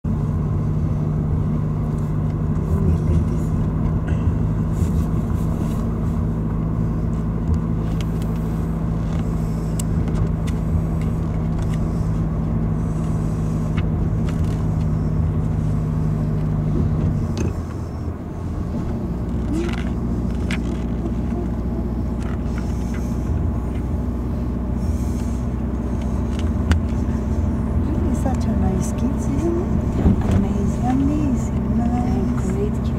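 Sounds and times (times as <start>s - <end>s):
car cabin engine hum: 0.0s - 32.9s.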